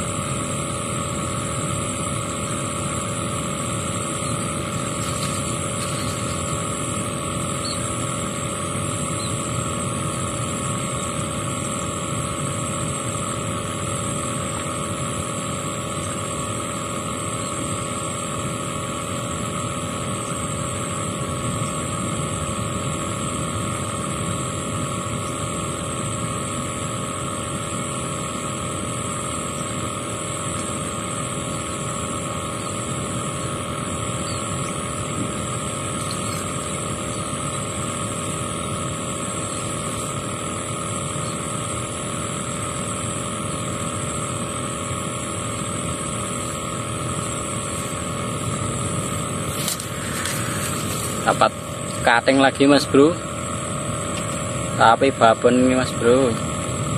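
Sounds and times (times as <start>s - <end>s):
engine drone: 0.0s - 56.9s.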